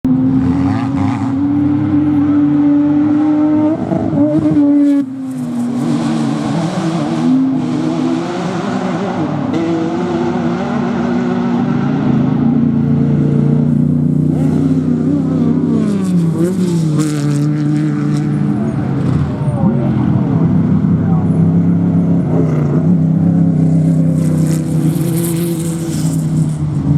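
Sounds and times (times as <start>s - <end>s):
racing truck engines revving: 0.0s - 26.9s.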